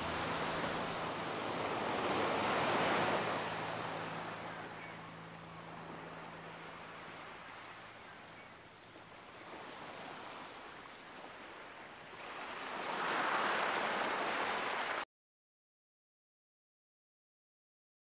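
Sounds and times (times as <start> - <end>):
sea surf washing in: 0.0 - 15.0.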